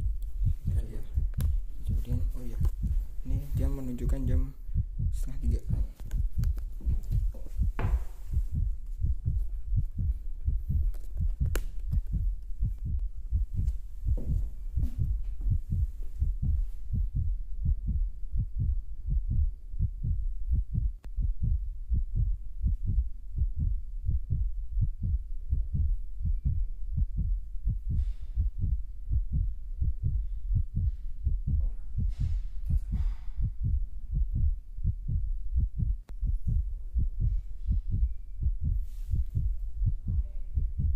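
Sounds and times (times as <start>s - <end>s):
low thumping rumble: 0.0s - 40.9s.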